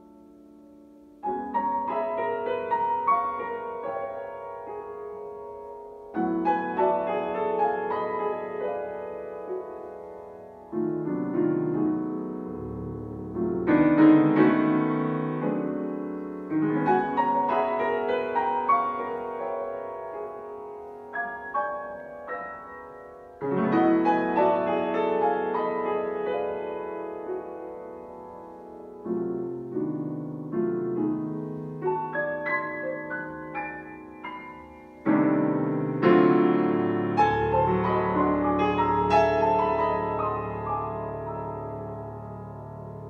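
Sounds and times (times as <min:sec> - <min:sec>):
grand piano playing: 0:00.0 - 0:43.0.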